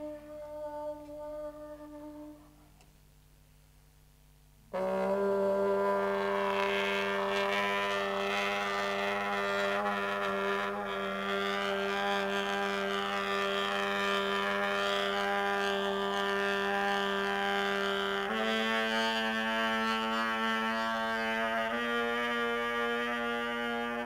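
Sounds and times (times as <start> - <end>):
brass instrument low held note: 0.0 - 2.8, 4.7 - 24.0.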